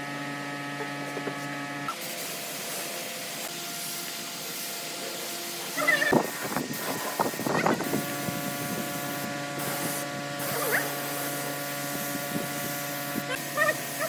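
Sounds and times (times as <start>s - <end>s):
machine hum with steady tones: 0.0s - 14.0s.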